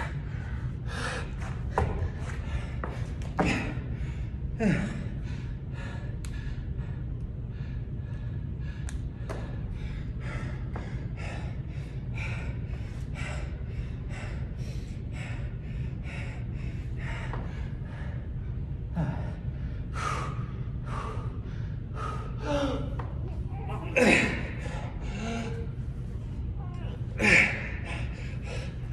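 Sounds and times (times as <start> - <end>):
man panting hard: 0.0 - 23.2, 23.9 - 26.6, 27.2 - 28.9
steady low hum: 0.0 - 28.9.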